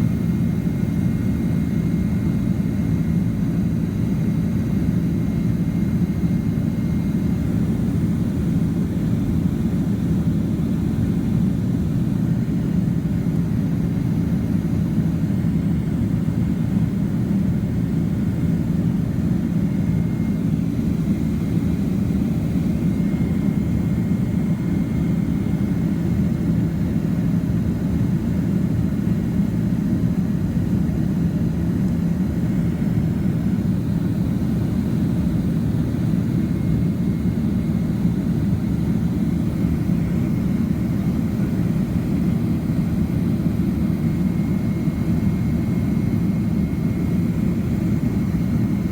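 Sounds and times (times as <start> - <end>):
jet engine and airflow rumble: 0.0 - 48.9.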